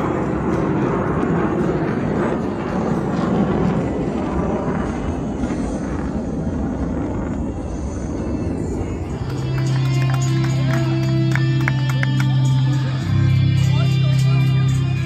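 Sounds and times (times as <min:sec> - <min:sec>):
jet aircraft rumble: 0:00.0 - 0:15.0.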